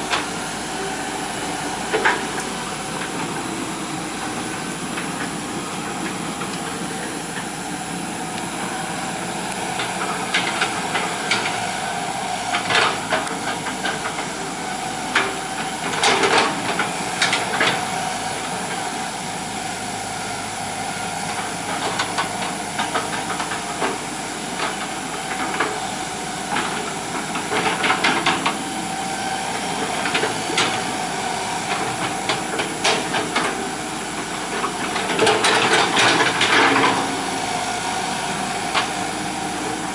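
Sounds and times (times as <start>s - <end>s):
excavator engine and hydraulic hiss: 0.0s - 39.9s.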